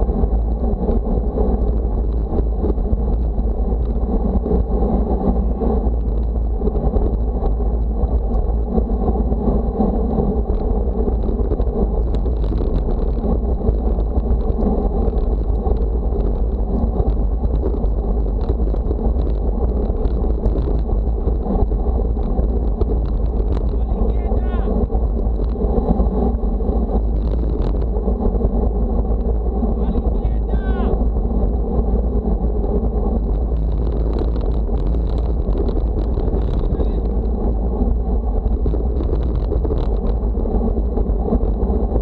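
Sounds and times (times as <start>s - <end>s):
wind buffeting the microphone: 0.0s - 42.0s.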